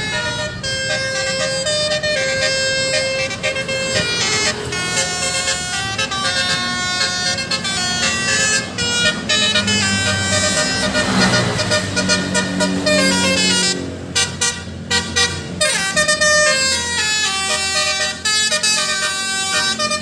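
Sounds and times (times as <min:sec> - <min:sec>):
bus engine running: 0:00.0 - 0:20.0
musical air horn tune: 0:00.0 - 0:20.0.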